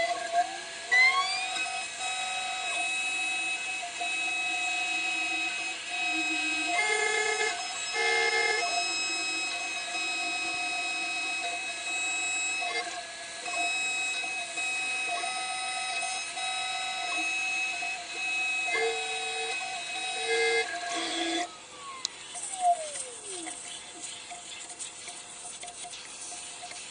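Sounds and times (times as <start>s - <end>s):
cnc router machine whine: 0.0s - 26.9s.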